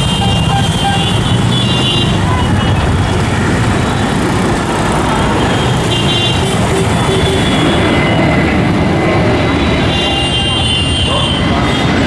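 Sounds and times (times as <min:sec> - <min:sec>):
loud engine rumble: 0:00.0 - 0:12.0.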